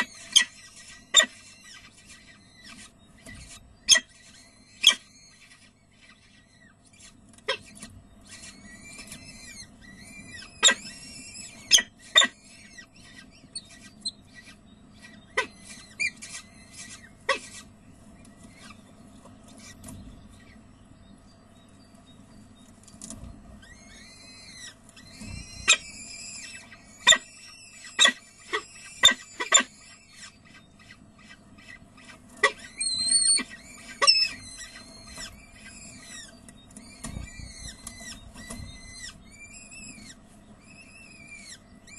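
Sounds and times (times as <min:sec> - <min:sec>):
chicks begging calls: 0:00.0 - 0:21.0, 0:23.4 - 0:41.9
low steady hum: 0:00.0 - 0:41.9.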